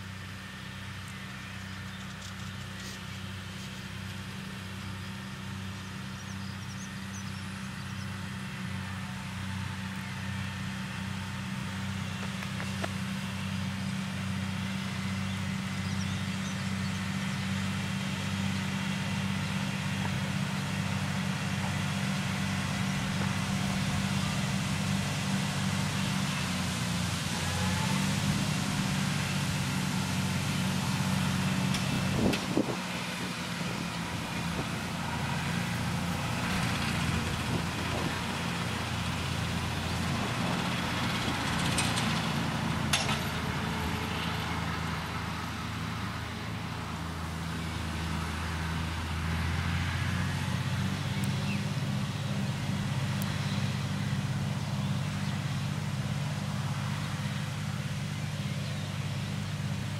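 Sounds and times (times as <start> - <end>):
mowers cutting tall grass: 0.0 - 59.9
tractor diesel engine under load: 0.0 - 59.9.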